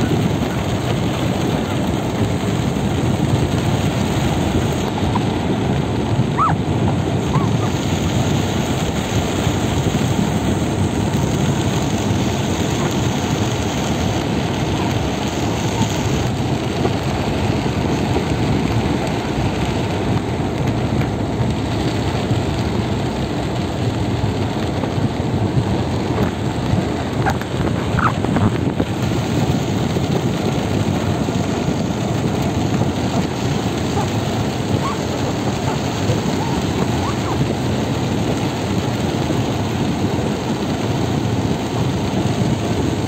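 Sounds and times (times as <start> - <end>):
car running noise: 0.0 - 43.0
heavy rain on car roof: 0.0 - 43.0.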